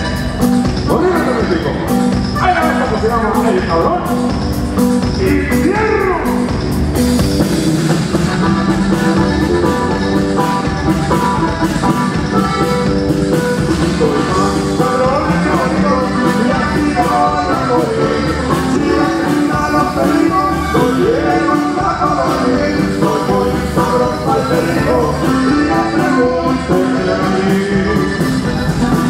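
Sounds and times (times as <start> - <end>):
drums: 0.0 - 29.0
electric bass: 0.0 - 29.0
keyboard: 0.0 - 29.0.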